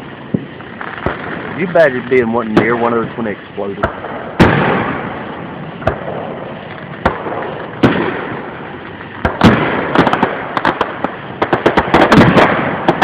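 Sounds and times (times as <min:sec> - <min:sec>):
fireworks bangs with crackle: 0:00.0 - 0:13.0
rapid firework pops: 0:00.3 - 0:03.2, 0:03.8 - 0:13.0.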